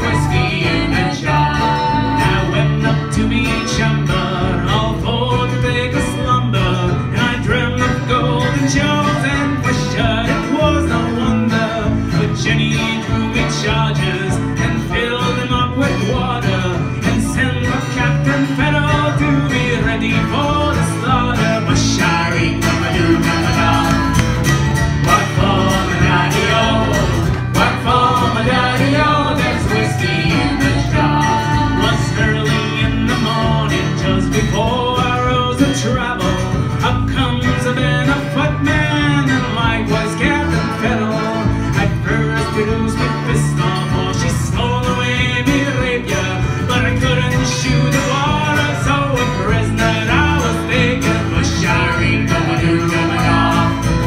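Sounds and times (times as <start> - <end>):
acoustic guitar: 0.0 - 54.0
banjo: 0.0 - 54.0
bluegrass band playing: 0.0 - 54.0.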